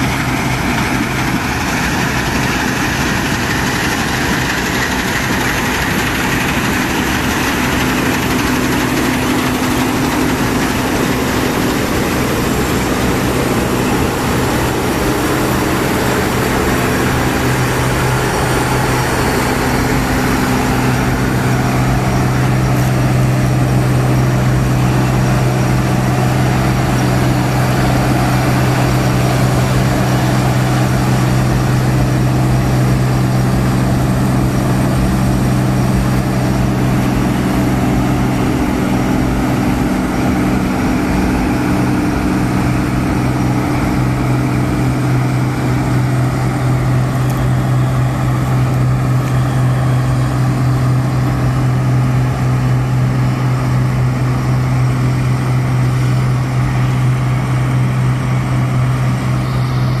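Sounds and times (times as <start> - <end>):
combine harvester engine drone: 0.0 - 60.0.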